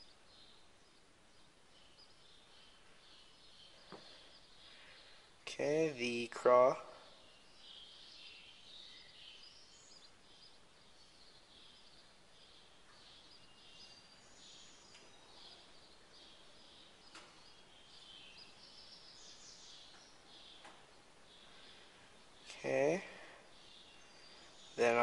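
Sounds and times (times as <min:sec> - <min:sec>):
faint high chirping: 0:00.0 - 0:25.0
faint room hiss: 0:00.0 - 0:25.0.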